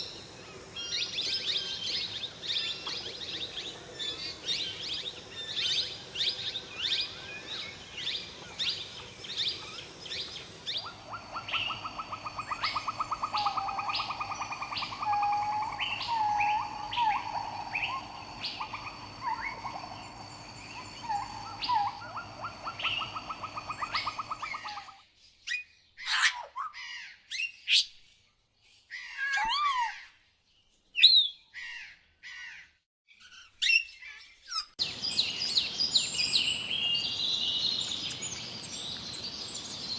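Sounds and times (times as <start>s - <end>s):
birds calling and singing: 0.0s - 39.9s.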